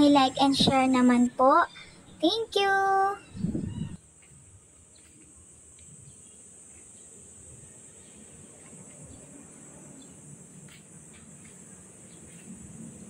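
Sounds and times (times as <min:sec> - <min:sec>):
insects droning: 0:00.0 - 0:13.0
low background hum: 0:00.0 - 0:13.0.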